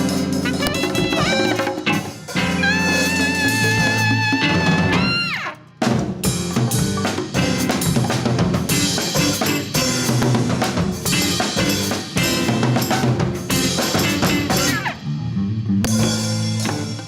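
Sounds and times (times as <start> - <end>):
drum kit snare and bass drum: 0.0 - 15.1, 15.8 - 17.0
latin fusion band playing: 0.0 - 17.0.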